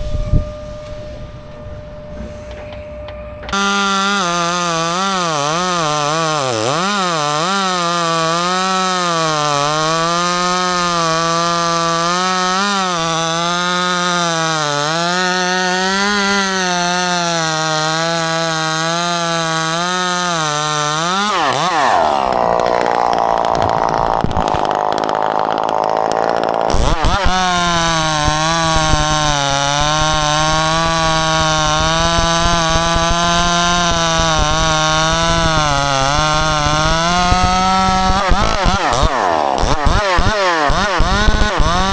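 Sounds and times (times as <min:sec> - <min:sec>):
chainsaw cutting through wood: 0:03.5 - 0:41.9
chainsaw revving: 0:03.5 - 0:41.9.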